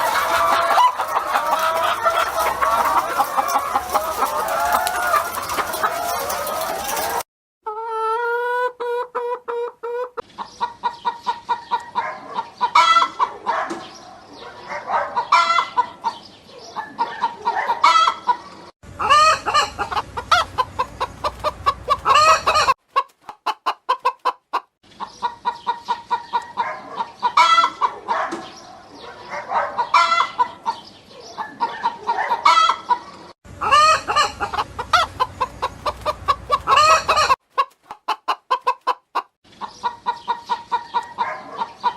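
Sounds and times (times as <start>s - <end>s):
hens clucking: 0.0s - 41.9s.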